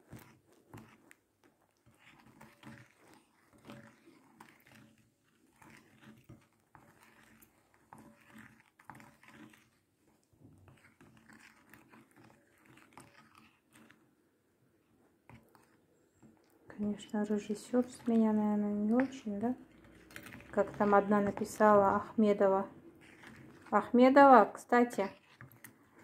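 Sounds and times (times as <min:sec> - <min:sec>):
spoon stirring thick paste: 0:00.0 - 0:26.0.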